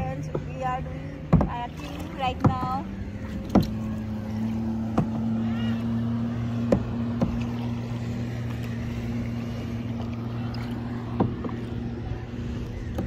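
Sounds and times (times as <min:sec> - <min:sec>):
motorboat engine humming: 0:00.0 - 0:13.0
water wash: 0:00.0 - 0:13.0.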